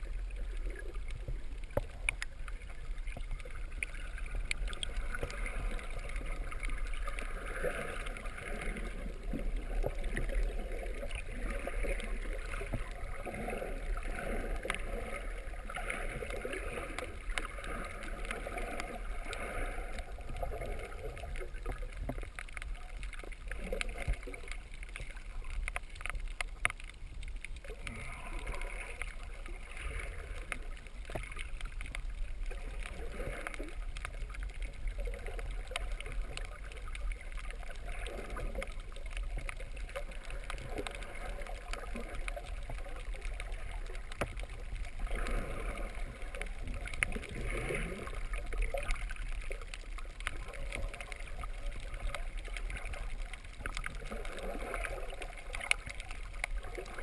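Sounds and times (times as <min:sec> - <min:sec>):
underwater rumble of moving water: 0:00.0 - 0:57.0
water bubbling and gurgling: 0:00.0 - 0:57.0.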